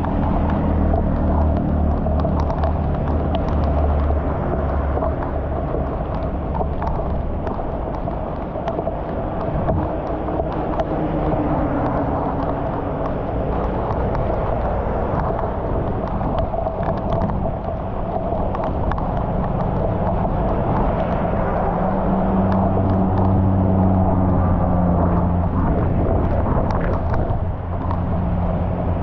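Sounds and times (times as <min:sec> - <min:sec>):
heavy rain on a flooded street: 0:00.0 - 0:29.0
small splashes and clicks: 0:00.0 - 0:29.0.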